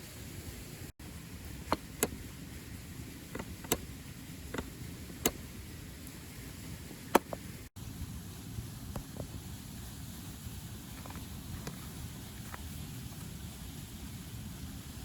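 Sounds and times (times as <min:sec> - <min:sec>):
steady fire hiss: 0:00.0 - 0:15.0.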